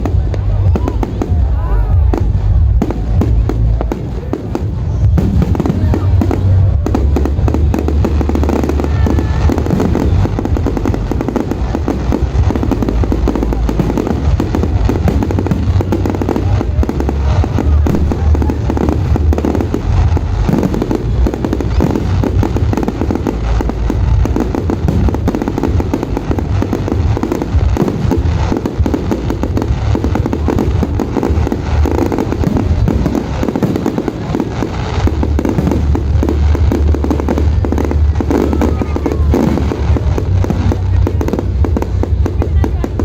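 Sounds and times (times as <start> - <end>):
fireworks bangs and booms: 0.0 - 43.0.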